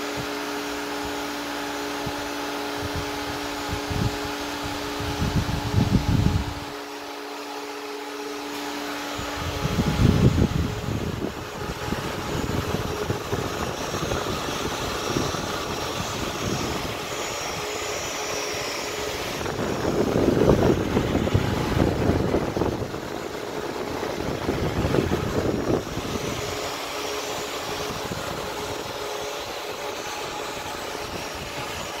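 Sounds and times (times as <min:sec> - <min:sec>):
computer cooling fans rushing: 0:00.0 - 0:32.0.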